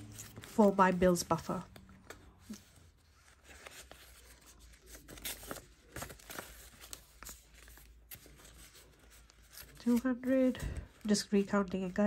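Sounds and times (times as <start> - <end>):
banknotes rustling: 0.0 - 12.0.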